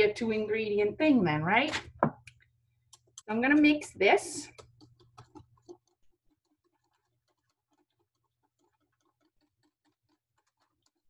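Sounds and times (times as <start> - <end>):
utensil stirring batter in metal bowl: 1.7 - 11.0.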